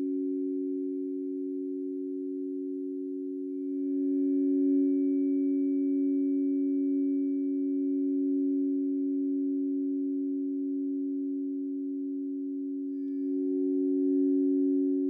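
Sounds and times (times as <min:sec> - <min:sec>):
tuning forks ringing: 0:00.0 - 0:15.0.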